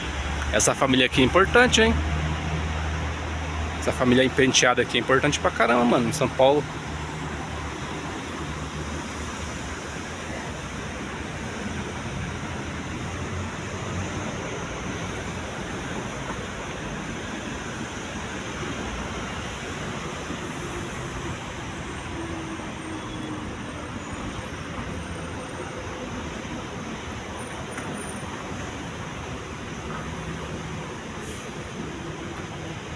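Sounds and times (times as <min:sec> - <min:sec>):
city street traffic hum: 0:00.0 - 0:32.9.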